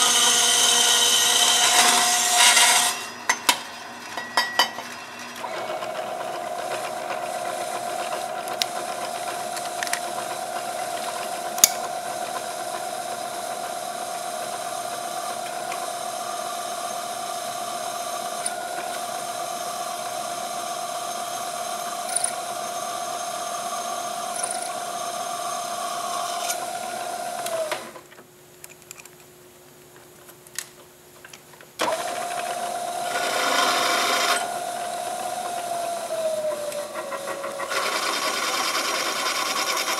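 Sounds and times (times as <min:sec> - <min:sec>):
drill boring through steel: 0:00.0 - 0:04.0, 0:05.3 - 0:27.9, 0:31.8 - 0:39.9
drill press motor whine: 0:00.0 - 0:28.1, 0:31.8 - 0:39.9.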